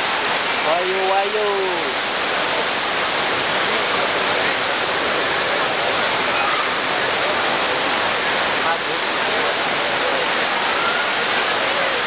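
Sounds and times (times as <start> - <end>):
stream running over boulders: 0.0 - 12.0
waterfall rushing onto rocks: 0.0 - 12.0.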